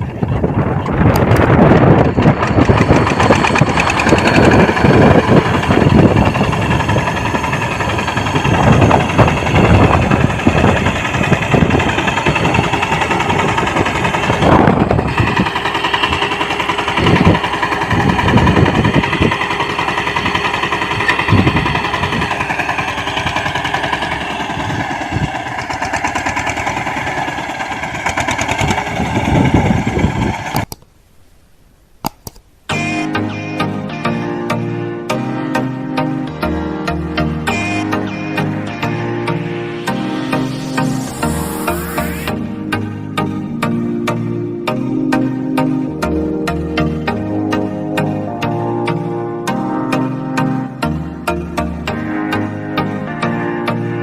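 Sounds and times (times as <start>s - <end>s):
mini tractor engine running: 0.0s - 30.7s, 34.1s - 54.0s.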